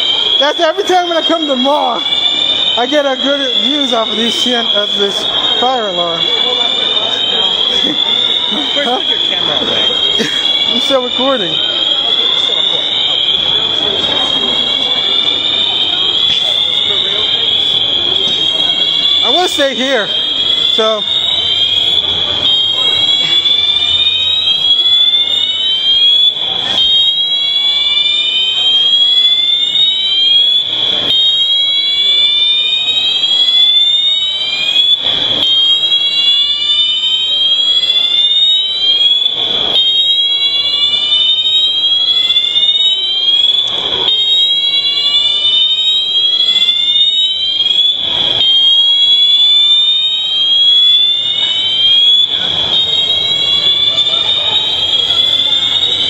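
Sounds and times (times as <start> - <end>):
fire alarm sweeping tone: 0.0 - 56.0.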